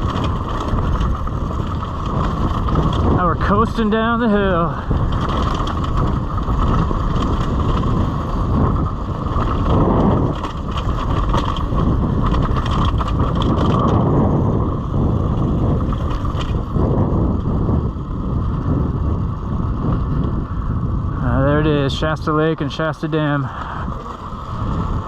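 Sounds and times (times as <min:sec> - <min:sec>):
dirt bike rattling: 0:00.0 - 0:25.0
wind rush on microphone: 0:00.0 - 0:25.0.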